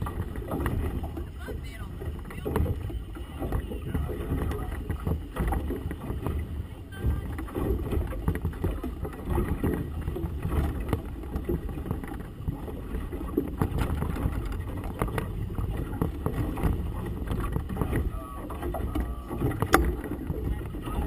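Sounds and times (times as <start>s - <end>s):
water splashing against boat hull: 0.0s - 21.0s.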